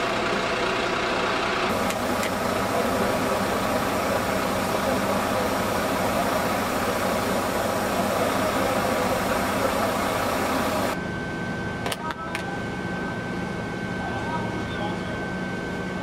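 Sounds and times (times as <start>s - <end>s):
engine-like running noise: 0.0s - 16.0s.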